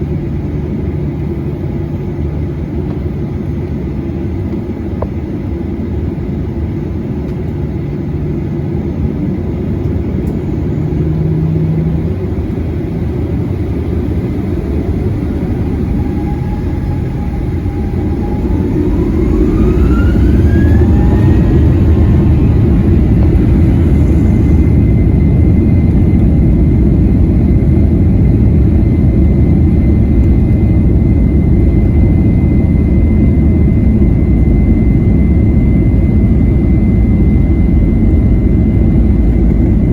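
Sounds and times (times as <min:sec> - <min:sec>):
jet engines from inside cabin: 0:00.0 - 0:39.9.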